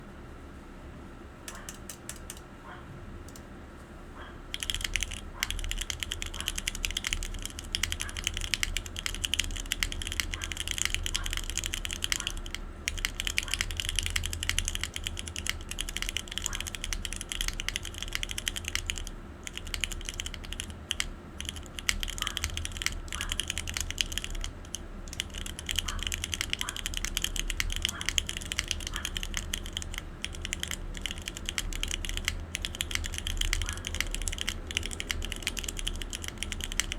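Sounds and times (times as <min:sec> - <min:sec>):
fast mechanical keyboard typing: 0:01.5 - 0:02.5, 0:04.5 - 0:36.9.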